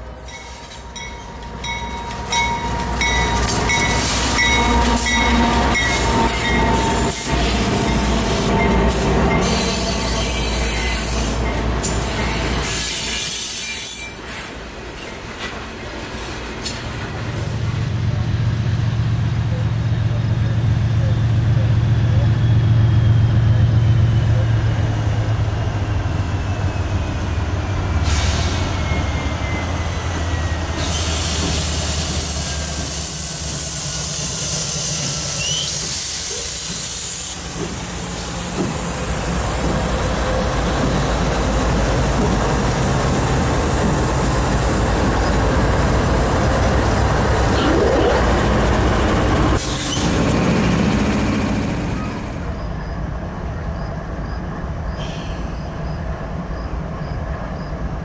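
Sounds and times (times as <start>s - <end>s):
diesel locomotive engines rumbling: 0.0s - 58.0s
distant train: 0.0s - 58.0s
train wheels rushing on rails: 0.0s - 58.0s.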